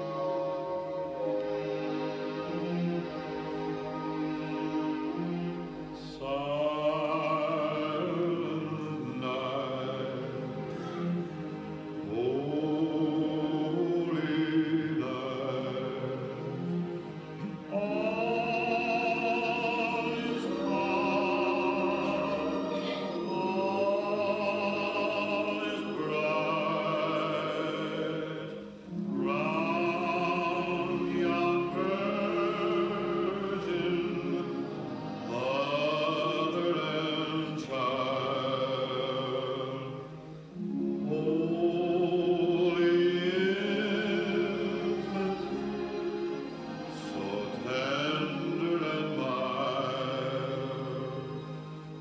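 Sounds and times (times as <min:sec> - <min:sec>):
classical singing over loudspeaker: 0:00.0 - 0:52.0.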